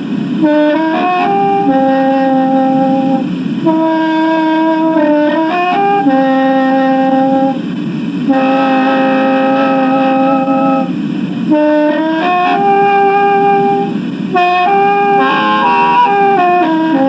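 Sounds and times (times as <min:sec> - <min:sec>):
mouth organ chords: 0:00.0 - 0:17.0.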